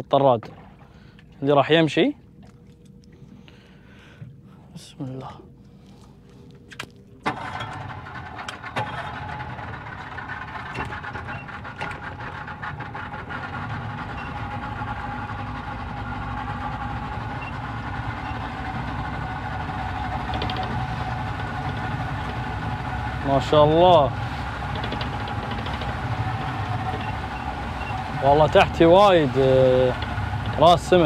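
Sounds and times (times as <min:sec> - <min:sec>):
speedboat engine running: 0:00.0 - 0:31.0.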